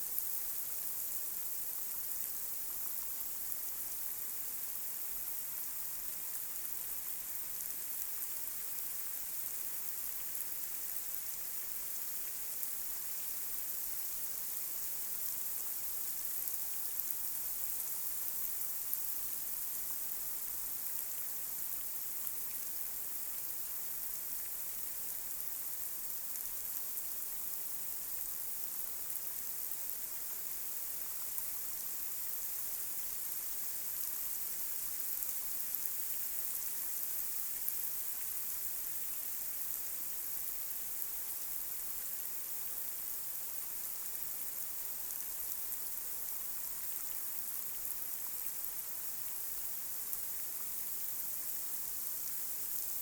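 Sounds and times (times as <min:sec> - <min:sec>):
light rain on street: 0:00.1 - 0:53.0.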